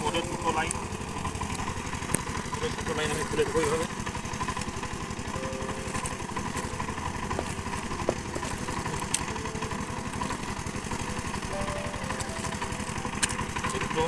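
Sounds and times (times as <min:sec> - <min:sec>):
water pump engine running: 0:00.0 - 0:14.0.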